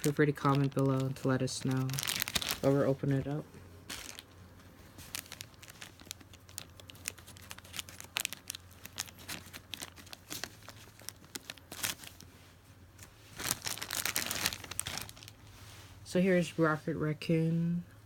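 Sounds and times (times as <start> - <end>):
plastic bag crinkling: 0.0 - 12.4, 13.0 - 15.6.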